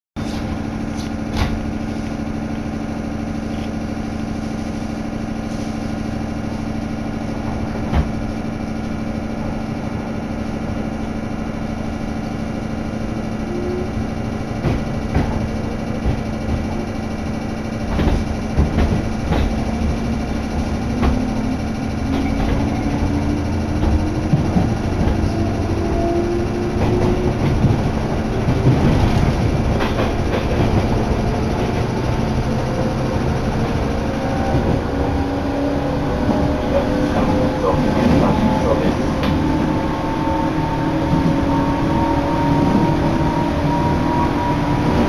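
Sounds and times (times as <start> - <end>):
train knocks: 0.2 - 2.4, 6.0 - 9.6, 12.1 - 45.0
electric train humming: 0.2 - 45.0
train motor whine: 0.2 - 45.0.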